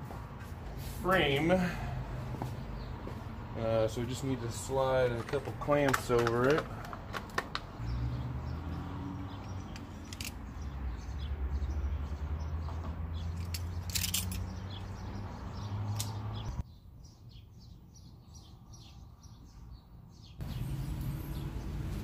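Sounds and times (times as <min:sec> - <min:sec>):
small birds chirping: 0:02.4 - 0:22.0.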